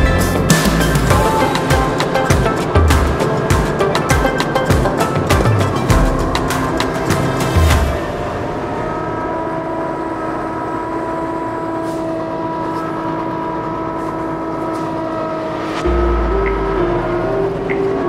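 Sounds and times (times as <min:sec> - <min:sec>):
snowblower whine: 0:00.0 - 0:18.0
tractor diesel engine running: 0:00.0 - 0:18.0.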